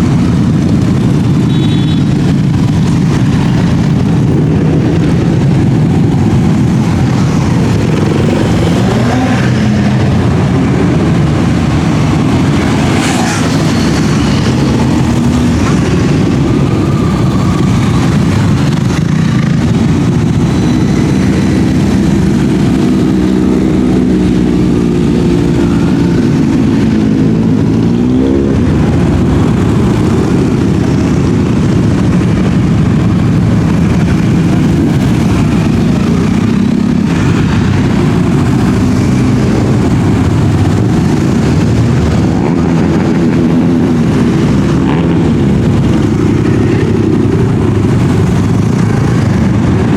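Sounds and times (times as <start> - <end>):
motorcycle engine revving: 0.0 - 49.9
motorcycle engines droning: 0.0 - 49.9.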